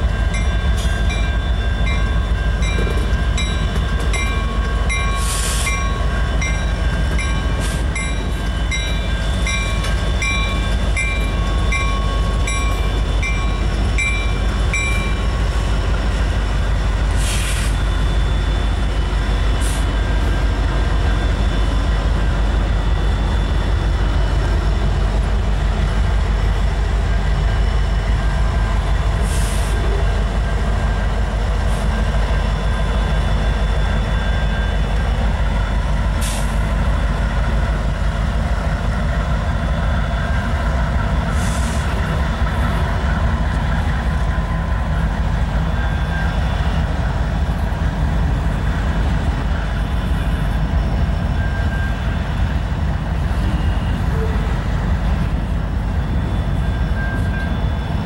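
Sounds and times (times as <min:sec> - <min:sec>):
grade-crossing bell ringing: 0:00.0 - 0:29.2, 0:29.8 - 0:36.2, 0:37.1 - 0:58.0
diesel freight train rumbling: 0:00.0 - 0:58.0.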